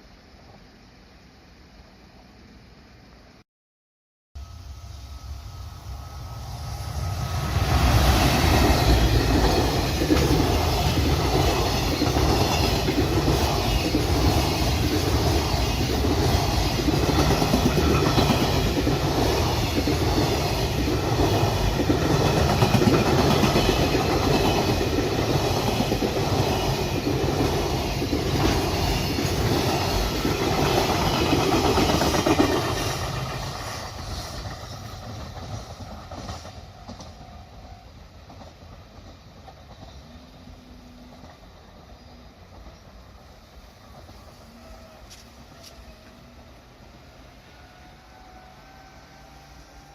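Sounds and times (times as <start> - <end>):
freight train wheels on rails: 4.4 - 49.9.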